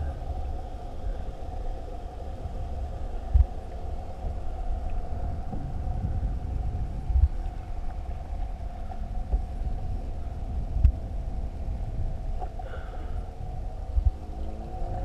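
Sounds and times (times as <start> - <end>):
low rumble: 0.0 - 15.0
mechanical hum: 0.0 - 15.0.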